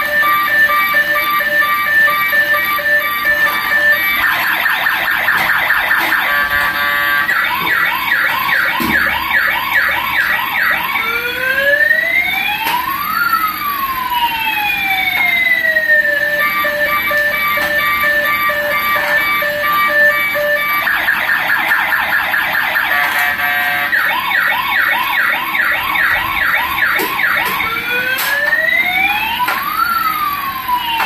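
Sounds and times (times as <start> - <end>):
toy electronic siren: 0.0 - 31.0.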